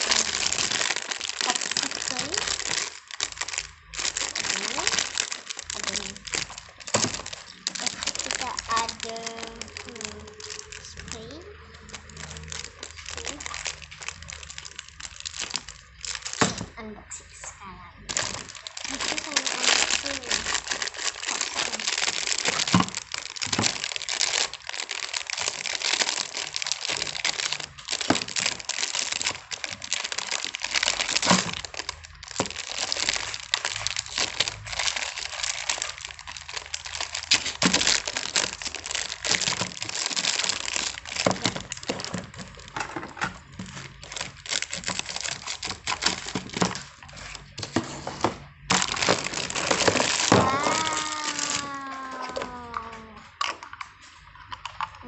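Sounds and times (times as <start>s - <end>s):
plastic packaging crinkling: 0.0s - 16.8s, 18.0s - 55.0s.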